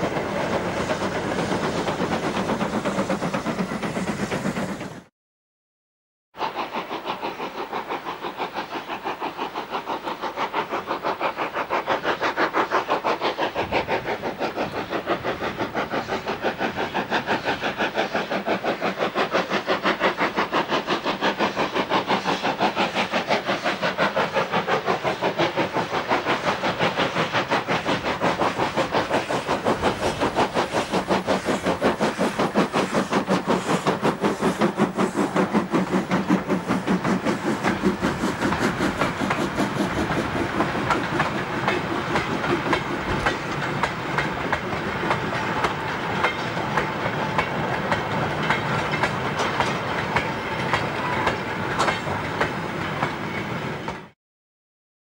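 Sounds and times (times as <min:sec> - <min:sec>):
steam locomotive exhaust beating: 0:00.0 - 0:05.1, 0:06.4 - 0:54.1.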